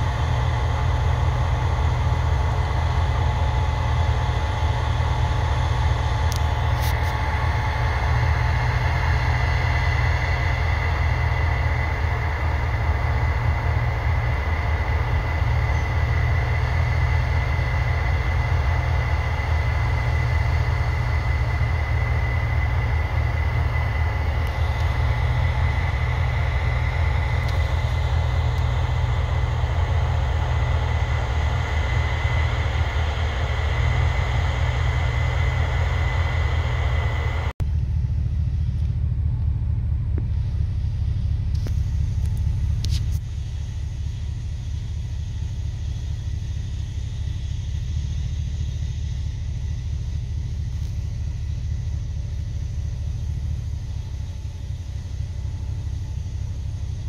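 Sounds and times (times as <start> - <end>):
combine engine rumble with whine: 0.0 - 57.0.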